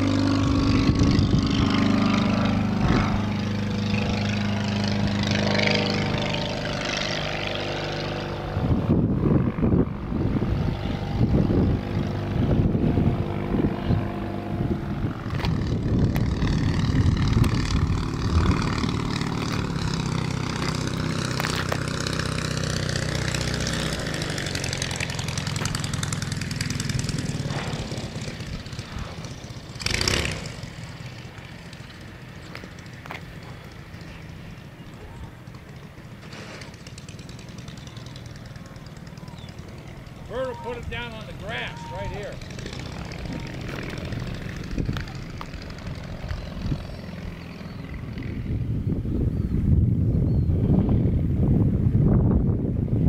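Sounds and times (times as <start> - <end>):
light aircraft engine flying past: 0.0 - 53.0
wind buffeting microphone: 0.0 - 53.0.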